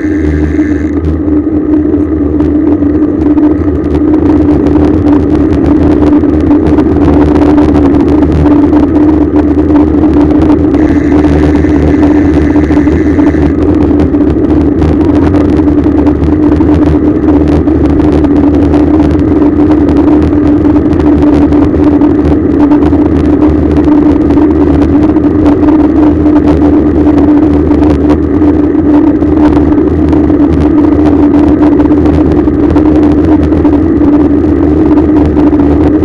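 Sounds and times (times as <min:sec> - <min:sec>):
bicycle tyre noise: 0:00.0 - 0:36.0
faint high whine: 0:00.0 - 0:36.0
steady drone: 0:00.0 - 0:36.0
wind on microphone: 0:00.0 - 0:36.0.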